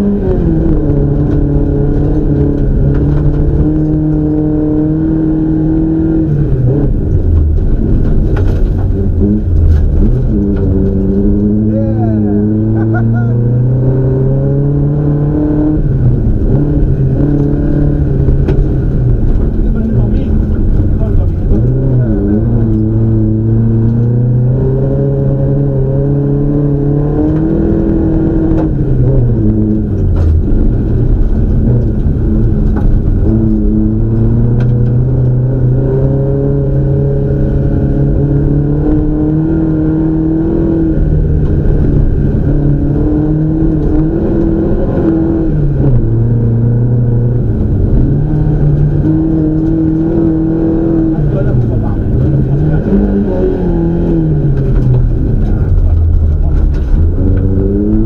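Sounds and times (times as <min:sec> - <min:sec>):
car engine revving from inside: 0:00.0 - 0:58.0.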